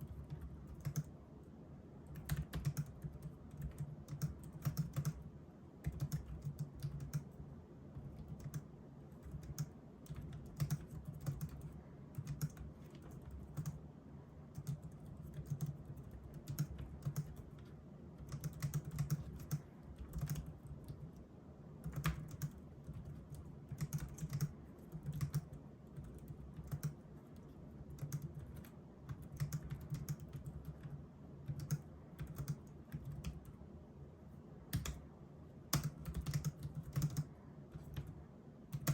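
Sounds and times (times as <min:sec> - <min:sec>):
soft keyboard typing clicks: 0:00.0 - 0:01.2, 0:02.0 - 0:13.8, 0:14.5 - 0:33.6, 0:34.7 - 0:35.0, 0:35.7 - 0:38.9.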